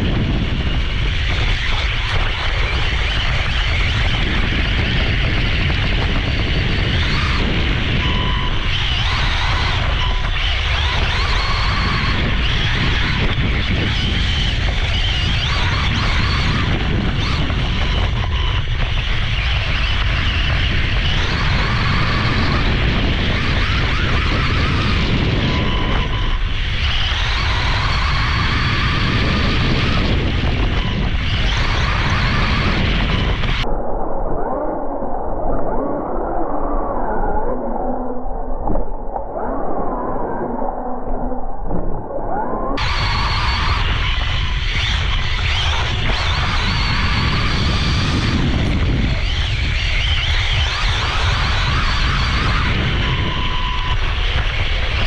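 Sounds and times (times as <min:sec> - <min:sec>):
electric motor whining: 0:00.0 - 0:33.6, 0:42.8 - 0:55.0
wind and dirt rumble: 0:00.0 - 0:34.1, 0:41.7 - 0:55.0.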